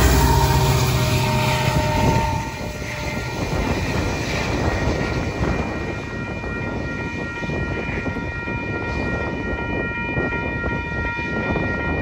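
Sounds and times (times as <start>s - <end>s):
diesel locomotive engine rumble: 0.0s - 12.0s
train rolling noise: 0.0s - 12.0s.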